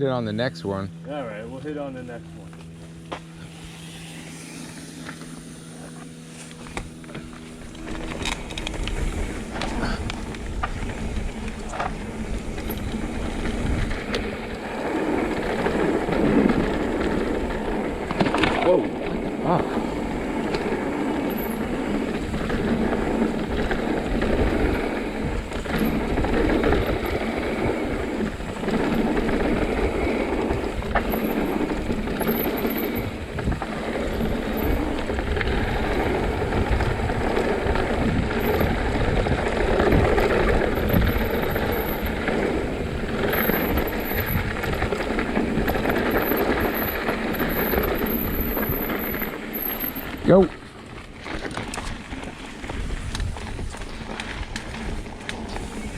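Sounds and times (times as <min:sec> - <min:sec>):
bike rumble and rattle on rocky trail: 0:00.0 - 0:55.9
wind noise on microphone: 0:06.6 - 0:50.2, 0:50.8 - 0:55.9.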